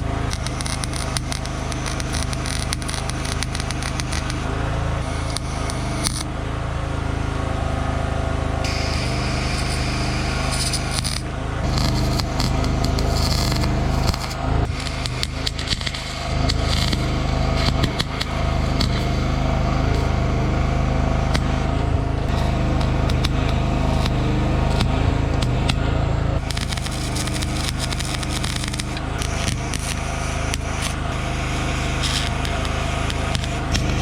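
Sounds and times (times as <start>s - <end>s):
steady low hum: 0.0s - 34.0s
welding arc crackling: 0.0s - 34.0s.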